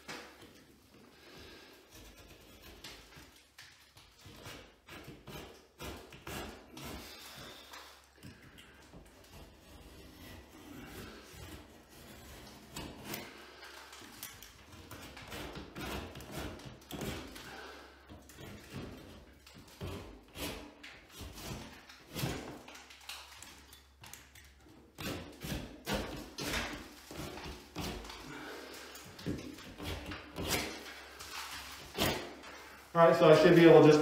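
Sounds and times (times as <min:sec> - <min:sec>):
knife blade scraping drywall: 0:00.0 - 0:34.0.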